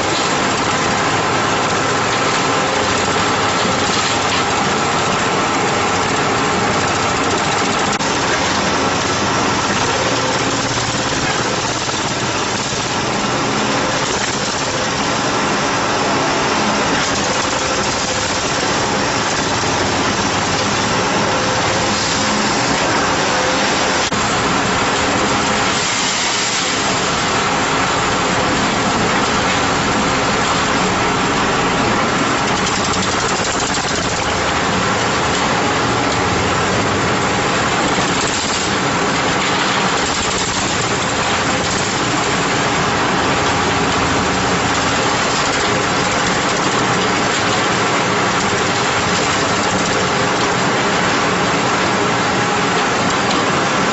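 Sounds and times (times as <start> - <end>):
concrete mixer running: 0.0 - 53.9.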